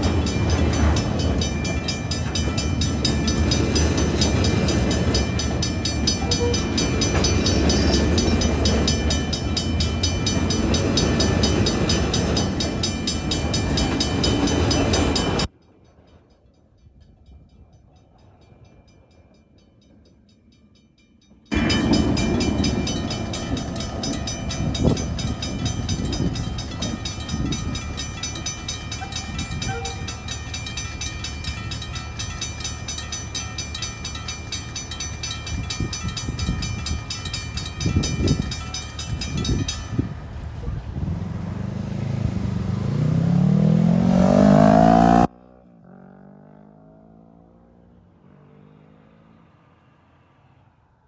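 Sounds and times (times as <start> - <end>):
train wheels rumbling on rails: 0.0 - 20.2, 21.0 - 45.3.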